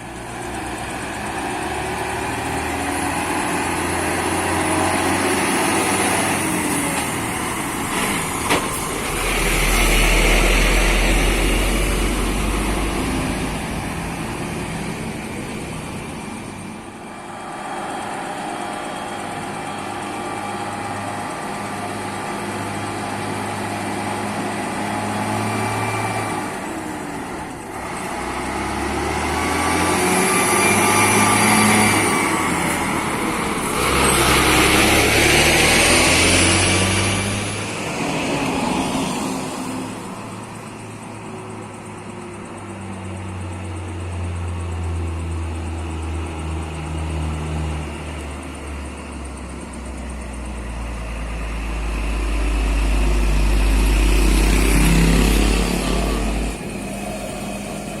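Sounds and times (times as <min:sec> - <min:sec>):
vehicles passing on road: 0:00.0 - 0:58.0.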